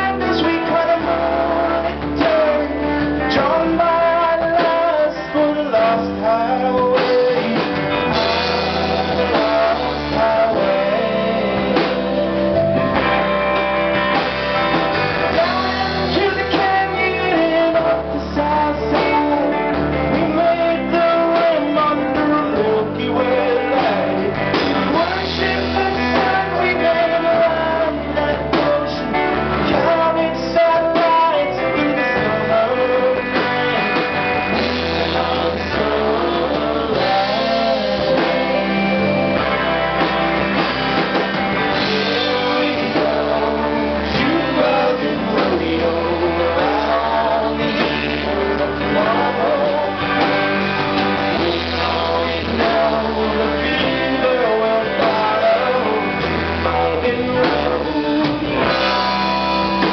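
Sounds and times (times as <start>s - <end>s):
man singing: 0.0s - 13.1s, 14.6s - 59.9s
rock band playing: 0.0s - 59.9s.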